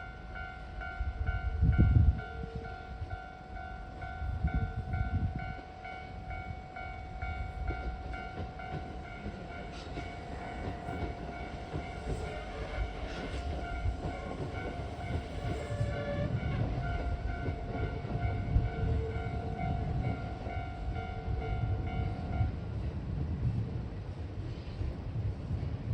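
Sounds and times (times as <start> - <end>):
crossing warning bell ringing: 0.0 - 22.9
train rumbling: 0.0 - 25.9.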